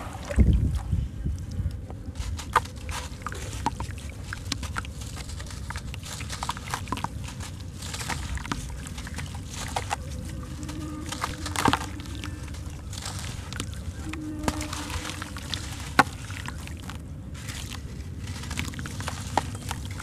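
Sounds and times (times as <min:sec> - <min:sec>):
low steady rumble: 0:00.0 - 0:20.0
wet lump crumbling with gritty crunches: 0:01.7 - 0:20.0
grit splashing into water: 0:02.2 - 0:20.0.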